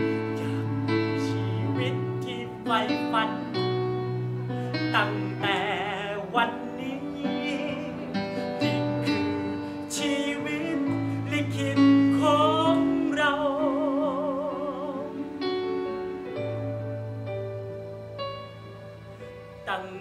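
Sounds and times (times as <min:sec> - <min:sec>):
person singing with vibrato: 0:00.0 - 0:17.0, 0:19.6 - 0:20.0
electronic keyboard chords: 0:00.0 - 0:20.0.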